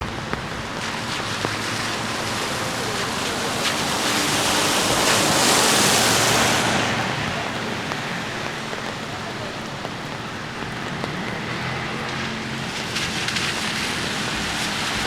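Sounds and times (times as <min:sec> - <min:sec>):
sharp water drips: 0:00.0 - 0:15.0
steady rain: 0:00.0 - 0:15.0.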